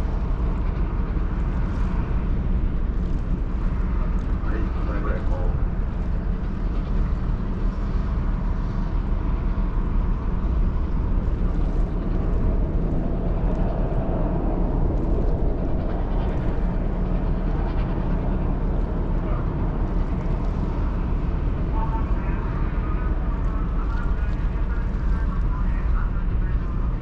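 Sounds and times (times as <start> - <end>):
ferry rumble with rushing hiss: 0.0 - 27.0.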